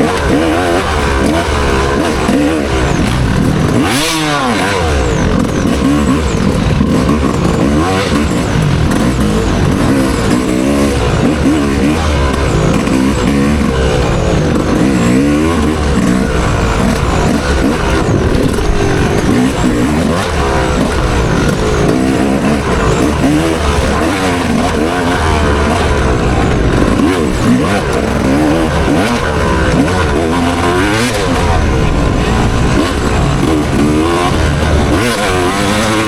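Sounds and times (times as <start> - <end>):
dirt bike engine revving: 0.0 - 36.0
steady rushing noise: 0.0 - 36.0.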